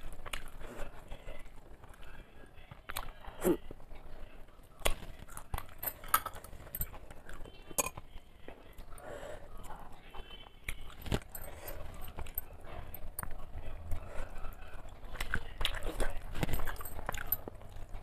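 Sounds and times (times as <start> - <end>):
chewing food: 0.0 - 9.0, 9.6 - 18.0.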